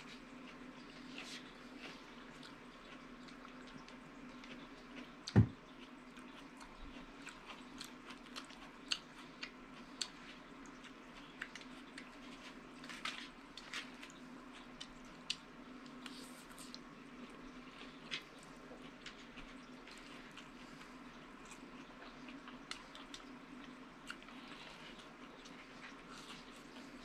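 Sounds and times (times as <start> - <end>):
faint steady hum: 0.0 - 27.0
wet chewing and slurping noodles: 0.0 - 27.0.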